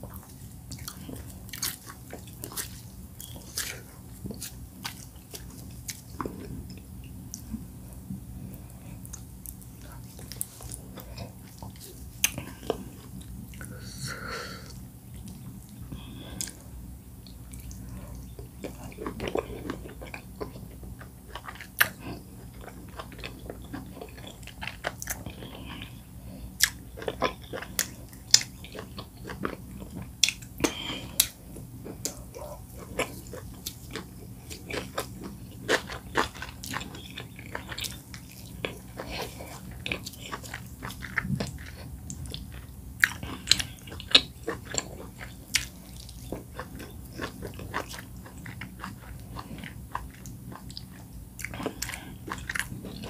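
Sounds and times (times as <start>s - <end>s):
person chewing wetly: 0.0s - 53.0s.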